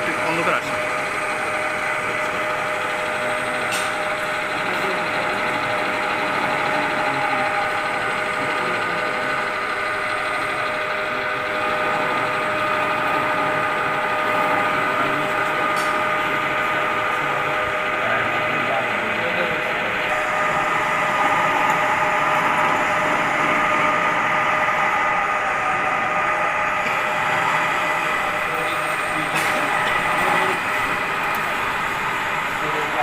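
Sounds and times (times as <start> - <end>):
lathe motor and gear whine: 0.0 - 33.0.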